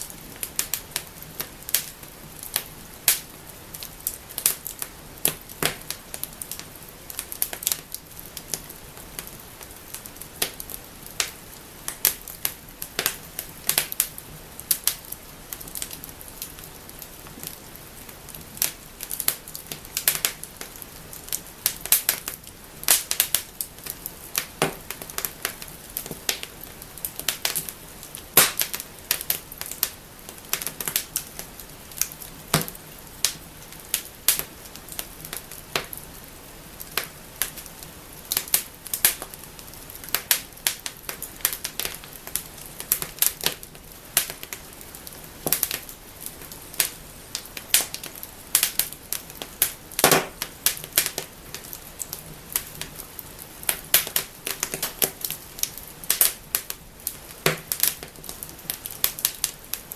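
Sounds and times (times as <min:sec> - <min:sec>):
wood fire crackling and snapping: 0:00.0 - 0:59.9.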